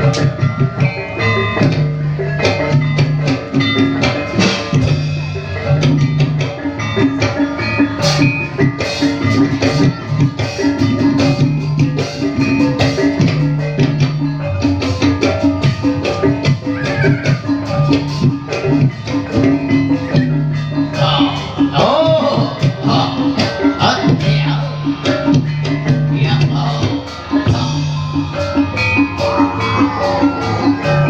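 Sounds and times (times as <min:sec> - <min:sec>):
drums: 0:00.0 - 0:31.0
struck pitched percussion: 0:00.0 - 0:31.0.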